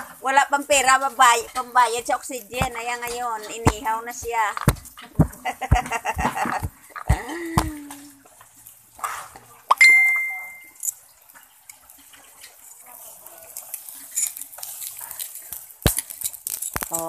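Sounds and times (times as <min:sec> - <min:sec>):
grill hiss and crackle: 0:00.0 - 0:17.0.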